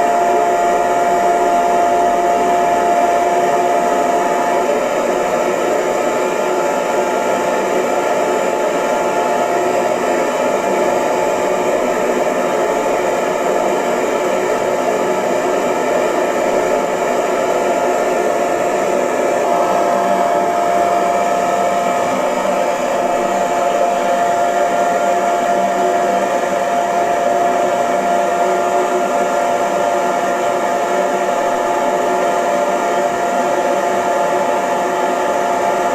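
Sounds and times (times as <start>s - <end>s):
hair dryer blowing: 0.0s - 35.9s.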